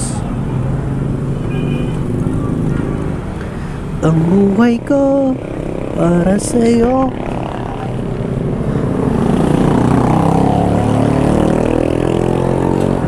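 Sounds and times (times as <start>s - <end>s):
vehicle engine passing by: 2.0s - 13.0s.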